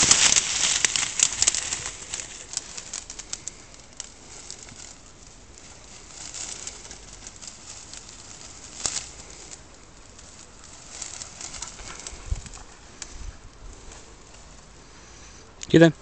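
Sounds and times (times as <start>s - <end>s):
twigs and dry leaves crackling: 0.0s - 16.0s.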